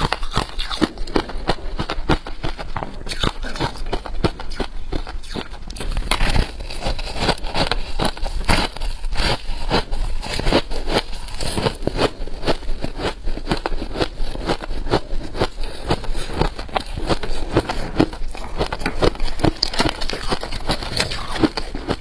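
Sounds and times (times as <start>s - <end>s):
frost being chewed: 0.0s - 22.0s.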